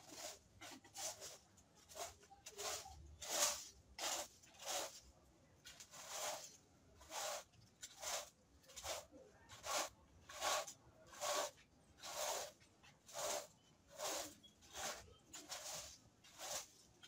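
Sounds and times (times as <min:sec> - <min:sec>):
metal rake scraping dirt: 0:00.0 - 0:05.0, 0:05.7 - 0:16.9.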